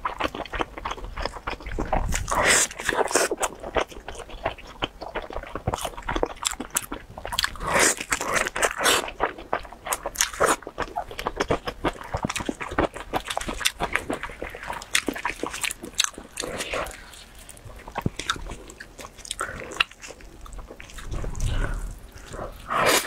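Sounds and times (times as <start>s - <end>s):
wet chewing clicks and squelches: 0.0s - 23.0s.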